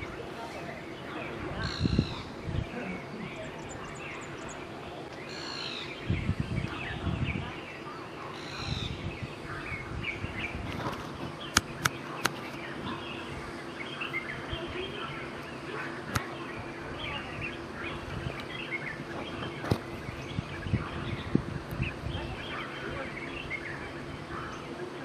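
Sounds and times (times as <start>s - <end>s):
faint steady hum: 0.0s - 25.0s
small birds chirping: 0.0s - 25.0s.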